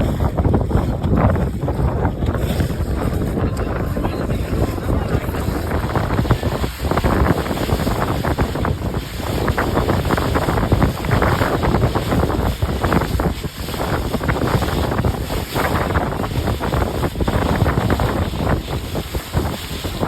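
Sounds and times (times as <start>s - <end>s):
water rushing under boat hull: 0.0s - 20.0s
wind buffeting microphone: 0.0s - 20.0s.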